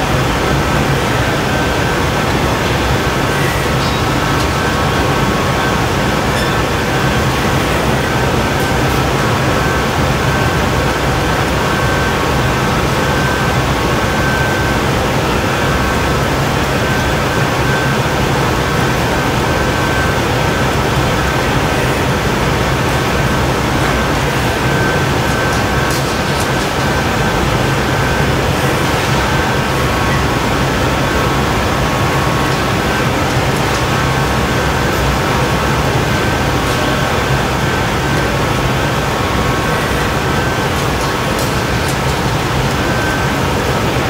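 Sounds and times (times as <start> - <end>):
gas burners and blowers roaring: 0.0 - 44.0
thin high whine: 0.0 - 44.0.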